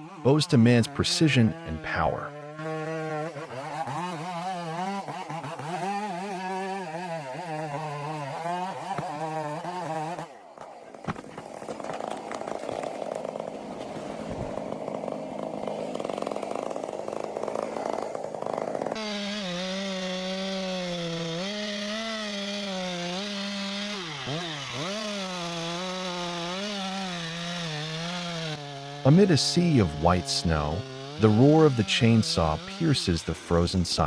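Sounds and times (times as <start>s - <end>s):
chainsaw cutting wood: 0.0s - 34.0s
chainsaw engine revving high: 0.0s - 34.0s.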